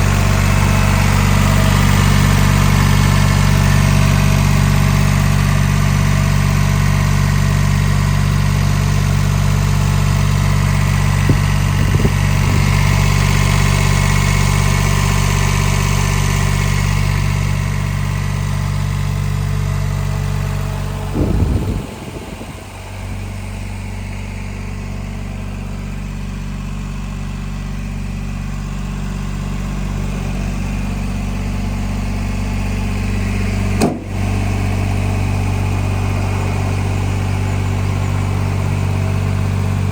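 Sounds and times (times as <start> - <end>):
small diesel engine running: 0.0 - 39.9.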